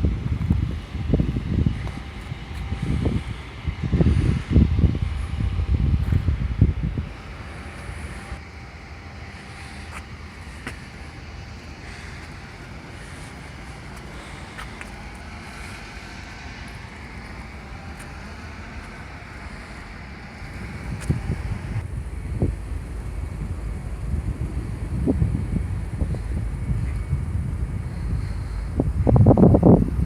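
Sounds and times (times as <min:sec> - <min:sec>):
distant road traffic: 0:00.0 - 0:30.0.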